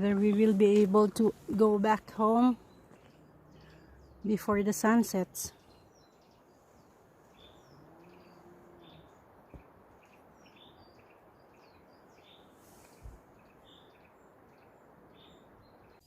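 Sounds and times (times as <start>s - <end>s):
background hiss: 0.0s - 16.0s
small birds chirping: 0.0s - 16.0s.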